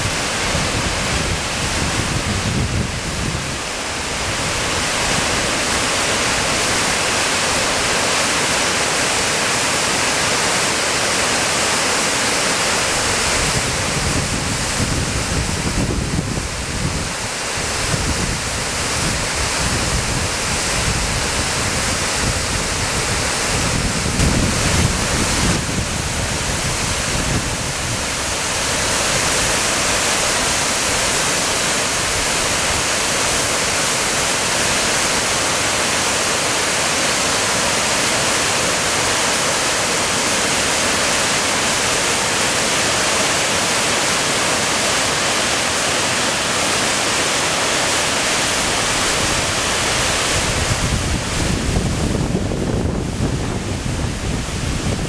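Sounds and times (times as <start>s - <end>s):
waterfall and torrent rushing: 0.0s - 55.0s.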